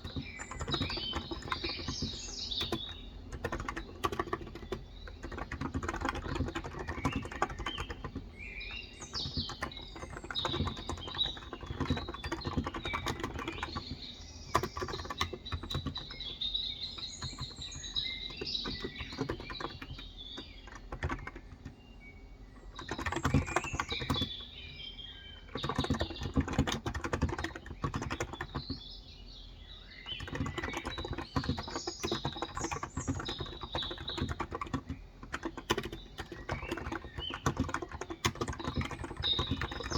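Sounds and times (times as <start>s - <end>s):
keyboard typing: 0.0s - 21.8s, 22.6s - 24.6s, 25.3s - 28.9s, 30.0s - 39.9s
small birds chirping: 0.0s - 39.9s.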